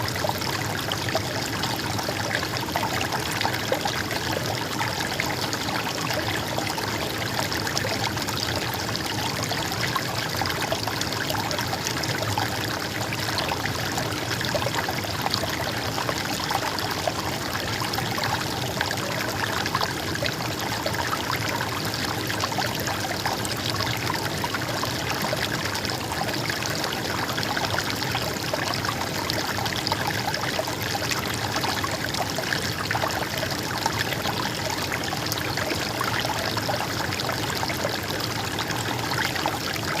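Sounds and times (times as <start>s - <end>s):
stream water babbling: 0.0s - 40.0s.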